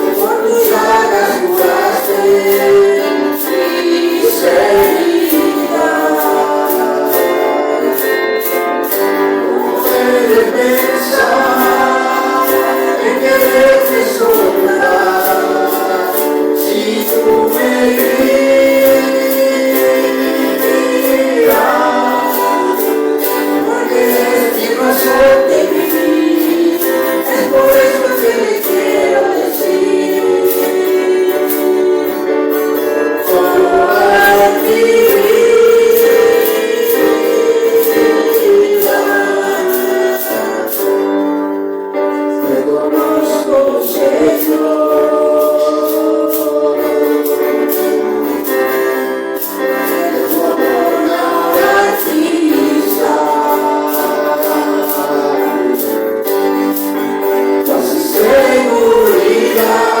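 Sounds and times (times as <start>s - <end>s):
group singing in unison: 0.0s - 60.0s.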